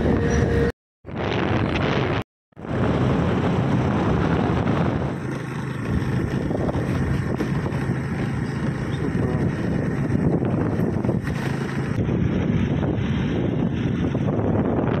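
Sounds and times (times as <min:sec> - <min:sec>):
vehicle road noise: 0:00.0 - 0:15.0
wind buffeting microphone: 0:00.0 - 0:15.0.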